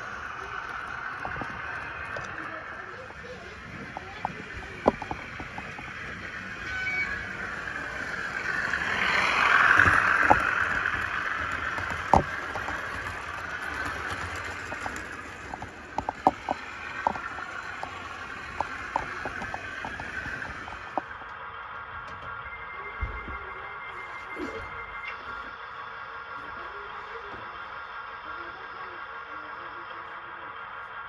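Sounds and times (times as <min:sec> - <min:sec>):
model train rushing hum: 0:00.0 - 0:31.0.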